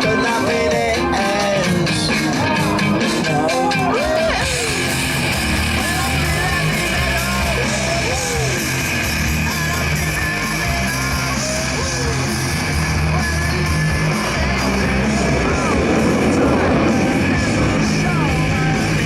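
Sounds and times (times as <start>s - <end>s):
loud rock music: 0.0s - 19.0s.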